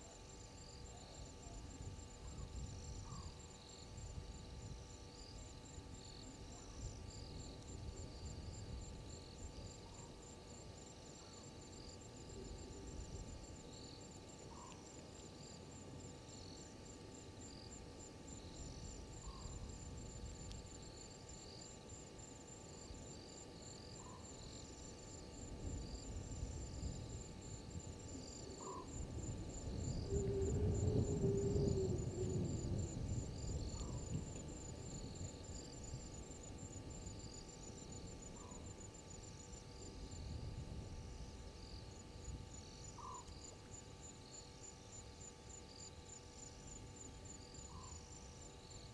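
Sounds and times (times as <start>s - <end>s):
insects trilling: 0.0s - 48.9s
lower insect chirps: 0.0s - 48.9s
short repeating insect call: 0.0s - 48.9s.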